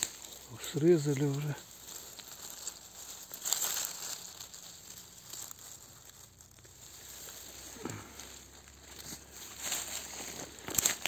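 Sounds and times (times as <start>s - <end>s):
dry leaves rustling and crackling: 0.0s - 11.0s.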